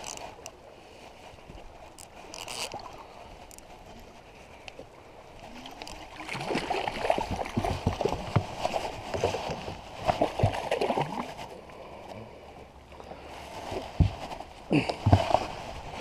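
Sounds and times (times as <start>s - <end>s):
water lapping: 0.0s - 16.0s.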